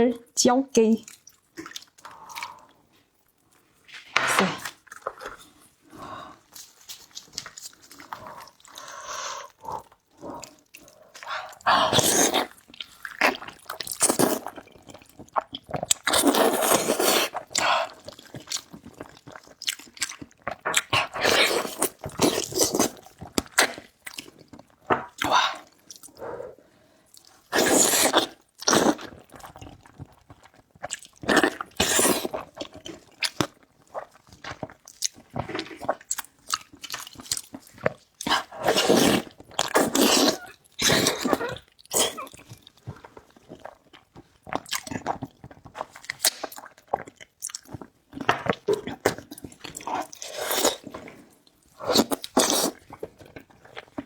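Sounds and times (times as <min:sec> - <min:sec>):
chewing and biting food: 0:01.0 - 0:03.9, 0:04.6 - 0:26.4, 0:27.0 - 0:54.0.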